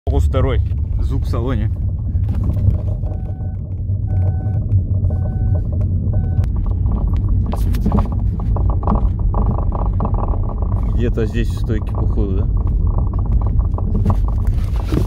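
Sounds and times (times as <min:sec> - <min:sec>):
road rumble inside car: 0:00.1 - 0:15.0
suspension knocks: 0:00.1 - 0:15.0.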